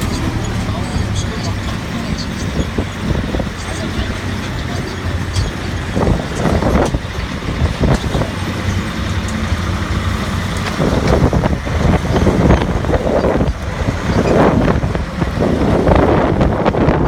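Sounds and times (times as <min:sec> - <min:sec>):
road train engine running: 0:00.0 - 0:17.0.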